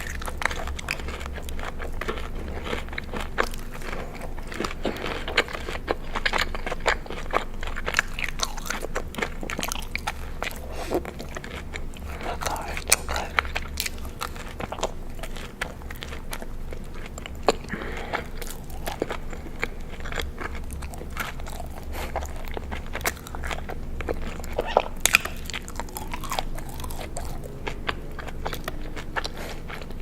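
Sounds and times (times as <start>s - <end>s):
crunchy food chewing: 0.0s - 30.0s
low steady hum: 0.0s - 30.0s.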